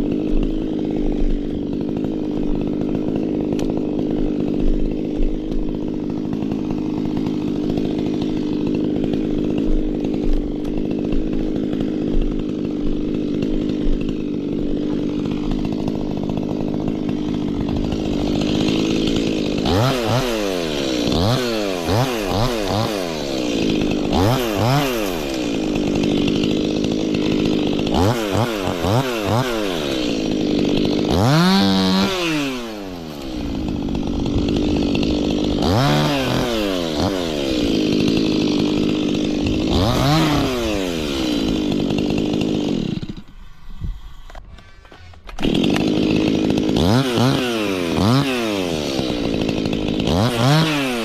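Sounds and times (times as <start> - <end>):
chainsaw running and revving: 0.0 - 51.0.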